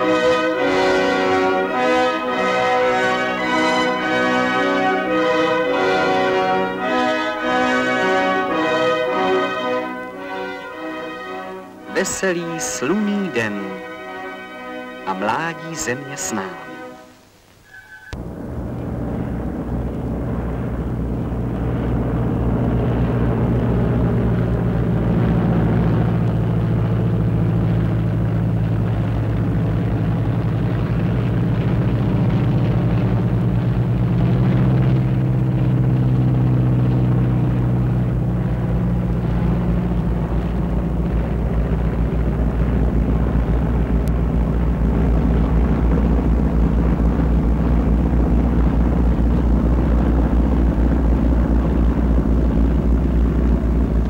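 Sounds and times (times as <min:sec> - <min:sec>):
military aircraft engines droning: 0:00.0 - 0:54.0.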